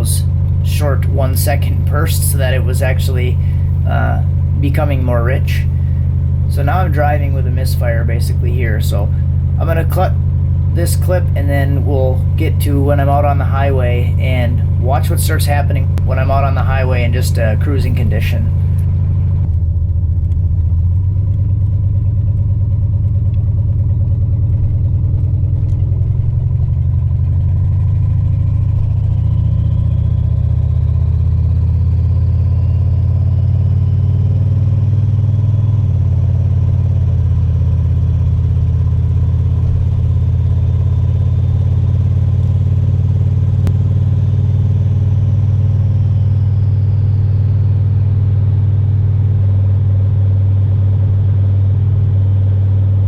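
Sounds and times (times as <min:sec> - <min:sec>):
faint high whine: 0:00.0 - 0:18.9, 0:29.0 - 0:53.0
truck engine droning at cruise: 0:00.0 - 0:53.0.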